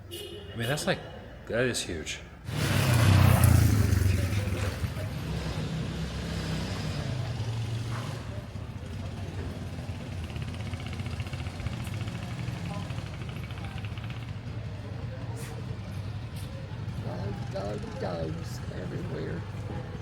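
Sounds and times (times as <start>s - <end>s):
vehicle engine running: 2.5s - 20.0s.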